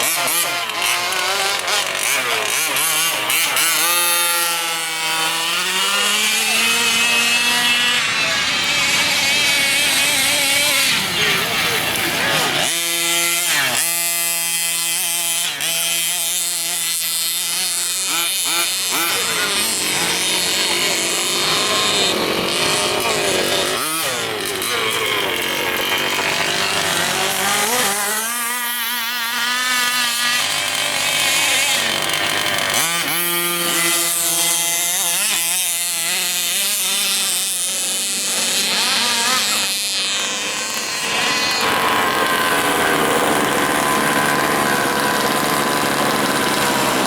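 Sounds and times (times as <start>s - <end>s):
small two-stroke engines revving: 0.0s - 47.0s.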